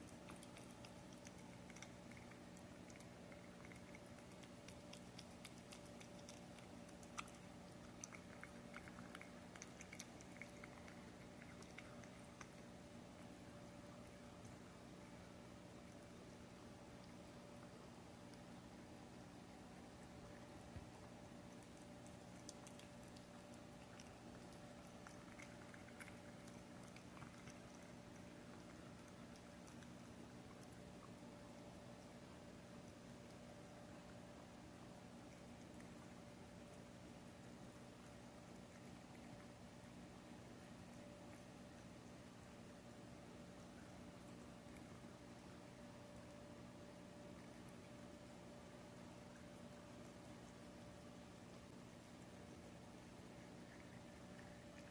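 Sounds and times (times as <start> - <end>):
cat chewing wet food: 0.0 - 54.9
faint steady hum: 0.0 - 54.9.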